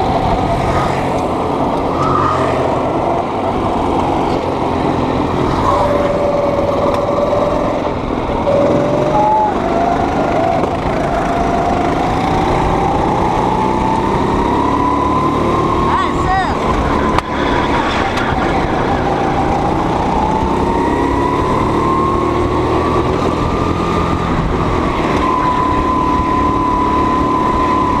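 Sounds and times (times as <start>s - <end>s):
go-kart engine running: 0.0s - 28.0s
steady noisy rush: 0.0s - 28.0s.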